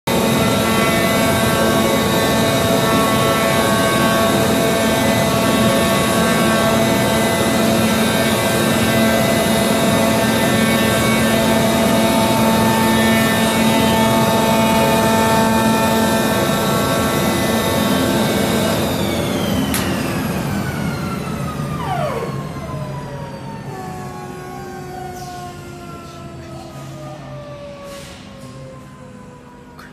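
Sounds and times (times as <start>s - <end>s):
cutting machine drone: 0.1s - 29.8s.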